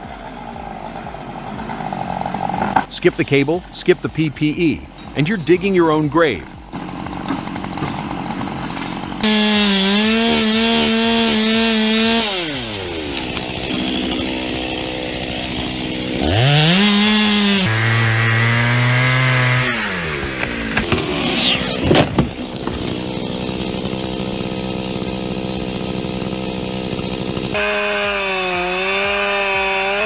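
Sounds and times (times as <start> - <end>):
chainsaw revving: 0.0 - 30.0.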